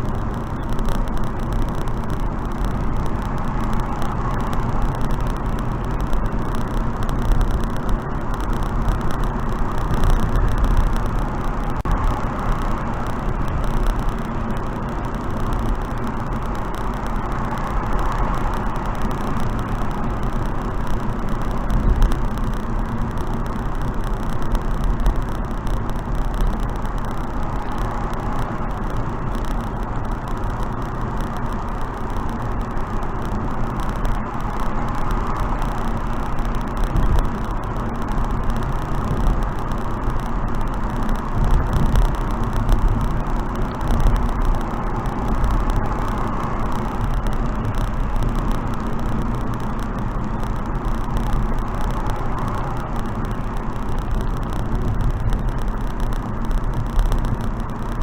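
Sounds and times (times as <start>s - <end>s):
car wind and road noise: 0.0s - 58.0s.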